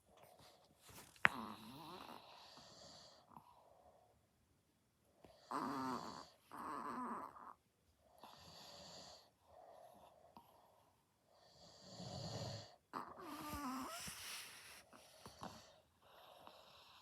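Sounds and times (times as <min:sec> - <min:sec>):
dogs snoring: 0:01.2 - 0:04.0, 0:05.2 - 0:17.0.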